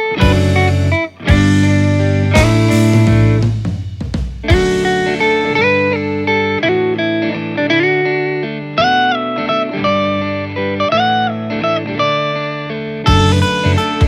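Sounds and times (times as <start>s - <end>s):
guitar melody with slides: 0.0s - 14.0s.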